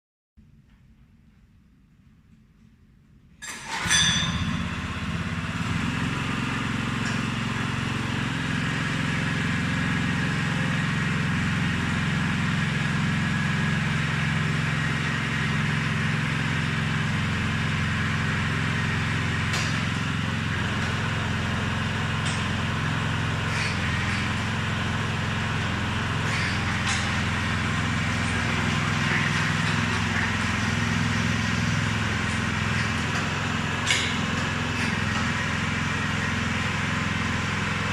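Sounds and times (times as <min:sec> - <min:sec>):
small engine running: 0:03.6 - 0:37.9.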